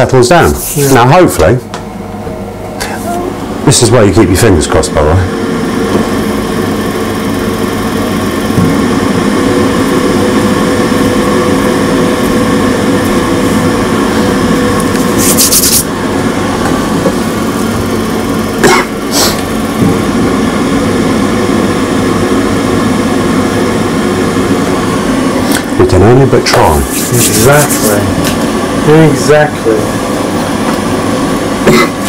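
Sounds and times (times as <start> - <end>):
boiler fan humming: 0.0 - 32.0.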